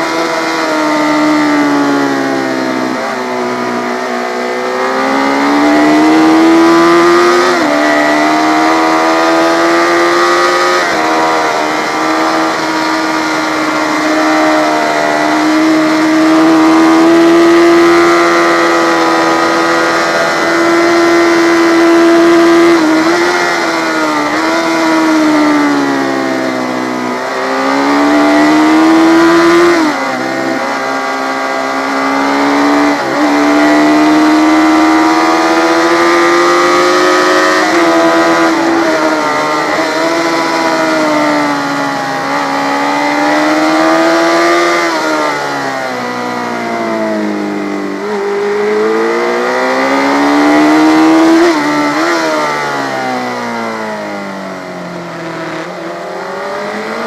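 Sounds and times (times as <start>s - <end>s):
motorcycle engine at high revs: 0.0s - 57.0s.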